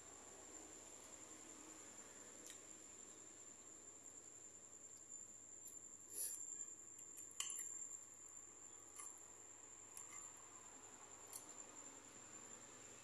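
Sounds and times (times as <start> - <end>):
steady high-pitched whine: 0.0 - 13.0.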